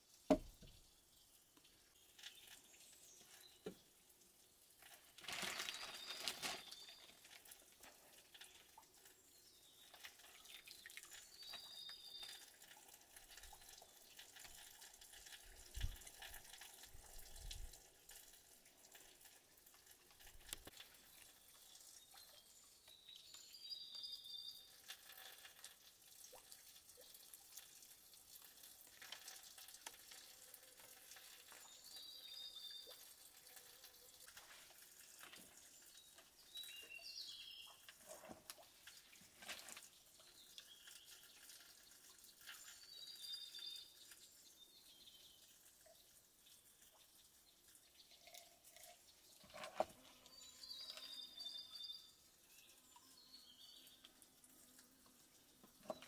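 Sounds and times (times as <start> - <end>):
water splashing and dripping: 0.0 - 56.0.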